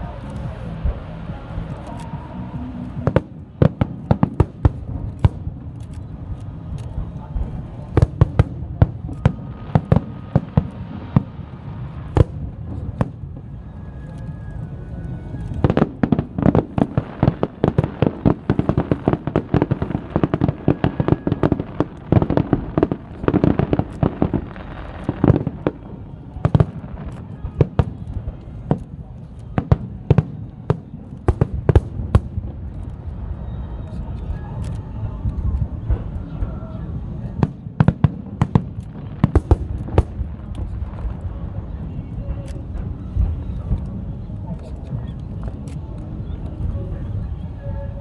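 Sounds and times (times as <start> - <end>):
firecrackers banging: 0.0 - 13.9, 14.5 - 47.3.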